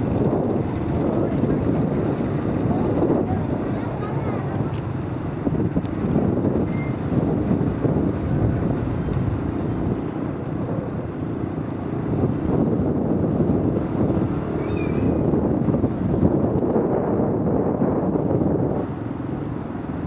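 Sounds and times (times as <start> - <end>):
wind rush on microphone: 0.0 - 20.0.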